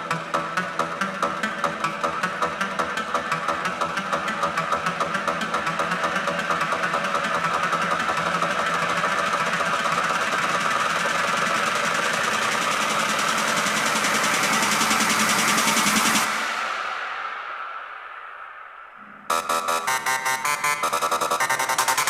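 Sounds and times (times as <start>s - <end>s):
loud techno music: 0.0s - 17.3s, 19.2s - 22.0s.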